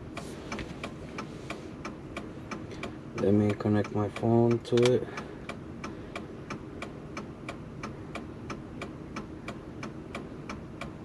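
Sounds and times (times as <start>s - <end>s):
low vehicle cabin hum: 0.0s - 11.0s
steady ticking: 0.0s - 11.0s.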